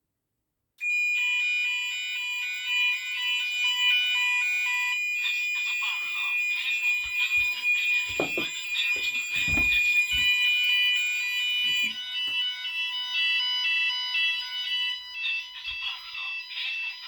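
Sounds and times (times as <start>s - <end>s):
fire alarm sounders: 0.8s - 17.0s.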